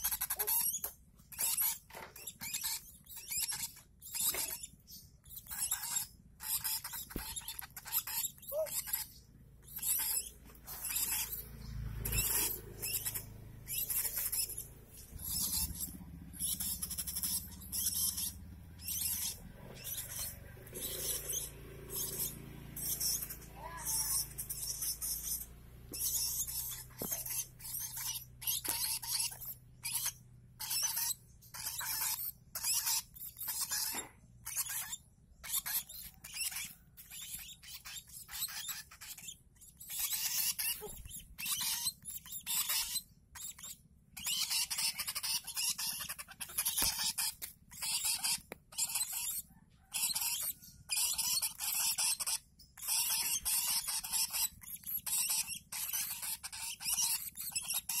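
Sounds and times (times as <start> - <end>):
chicks chirping harshly: 0.0 - 58.0.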